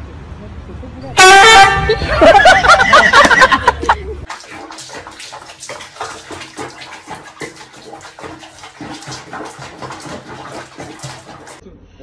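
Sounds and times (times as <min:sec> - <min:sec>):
water sloshing in a basin: 0:01.2 - 0:11.6.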